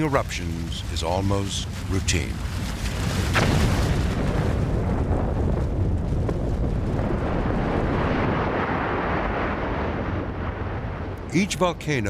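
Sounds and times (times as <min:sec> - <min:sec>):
faint crackles: 0:00.0 - 0:12.0
volcano rumbling: 0:00.0 - 0:12.0.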